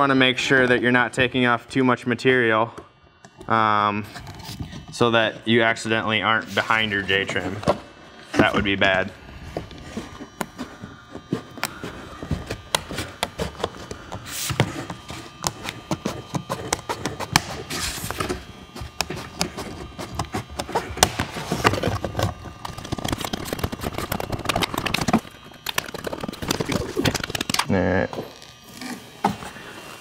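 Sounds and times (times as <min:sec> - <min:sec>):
vinyl scraping: 0:03.4 - 0:30.0.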